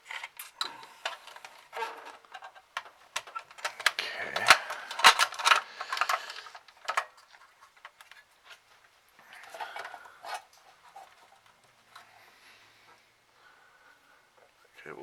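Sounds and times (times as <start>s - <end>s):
plastic and metal parts handled: 0.0s - 12.2s.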